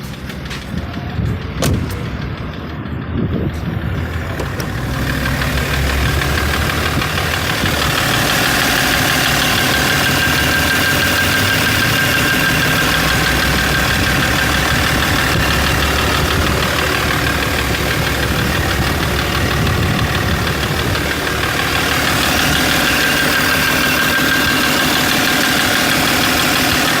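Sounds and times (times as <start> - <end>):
diesel engine running with knock: 0.0 - 27.0.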